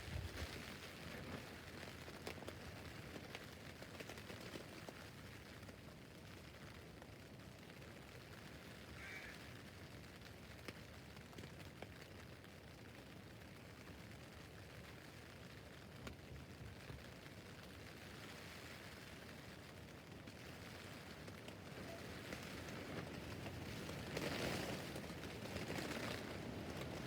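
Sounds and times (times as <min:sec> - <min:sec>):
rain pattering on tent roof: 0:00.0 - 0:27.0.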